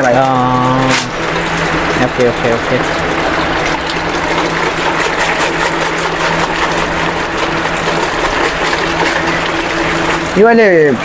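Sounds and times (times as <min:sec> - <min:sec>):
machinery humming and hissing: 0:00.0 - 0:11.0.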